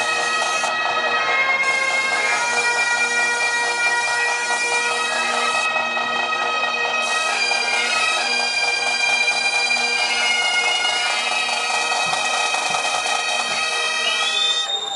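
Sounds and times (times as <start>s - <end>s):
bagpipes playing melody: 0.0s - 14.9s.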